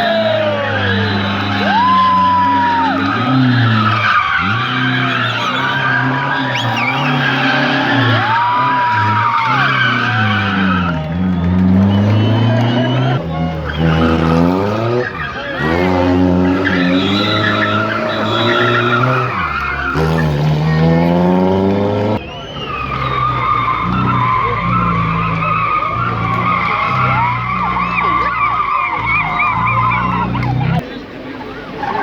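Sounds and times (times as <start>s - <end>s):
car engine accelerating: 0.0s - 30.9s.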